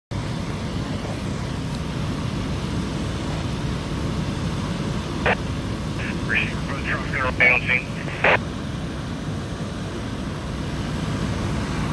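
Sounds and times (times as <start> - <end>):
emergency vehicles idling: 0.2 - 11.9.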